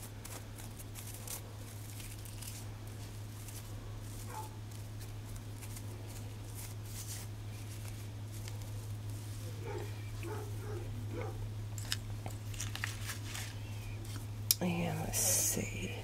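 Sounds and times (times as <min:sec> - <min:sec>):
hands rustling ribbon: 0:00.0 - 0:14.3
low electrical hum: 0:00.0 - 0:16.0.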